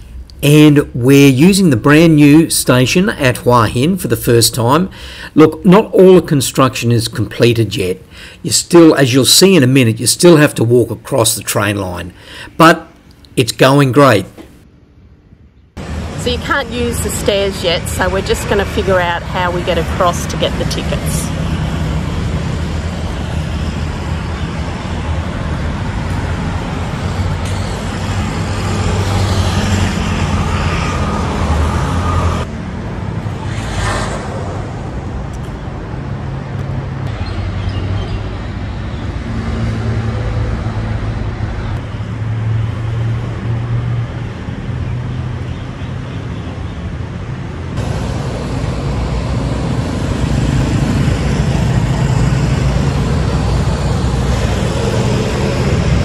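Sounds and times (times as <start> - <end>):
vehicle engine and traffic: 0.0 - 56.0.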